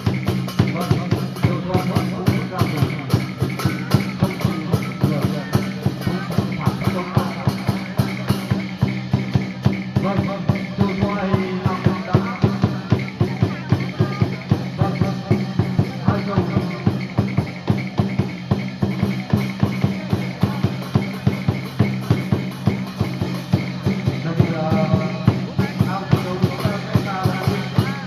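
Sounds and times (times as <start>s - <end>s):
quick percussion beat: 0.0s - 28.0s.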